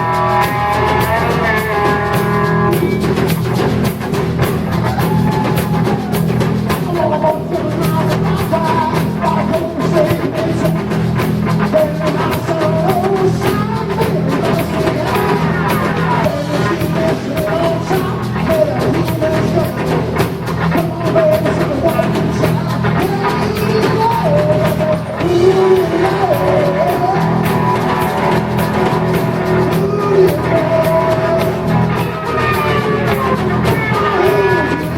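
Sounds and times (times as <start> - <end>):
person singing: 0.0 - 3.9, 4.7 - 34.9
drum kit: 0.0 - 34.9
electric guitar: 0.0 - 34.9.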